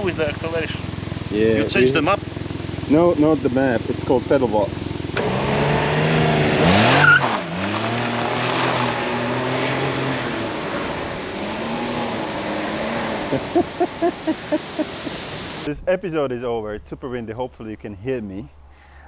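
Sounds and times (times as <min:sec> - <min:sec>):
engine revving: 0:00.0 - 0:15.7.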